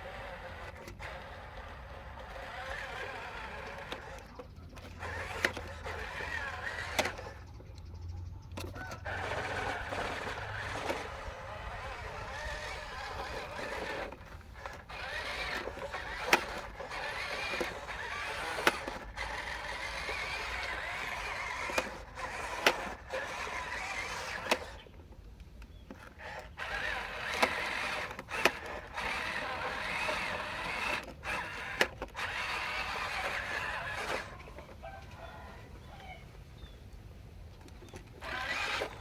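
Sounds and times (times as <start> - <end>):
toy electric motors whirring: 0.0 - 36.2, 37.5 - 39.0
sharp plastic clicks: 0.2 - 7.9, 8.5 - 35.3, 37.5 - 39.0.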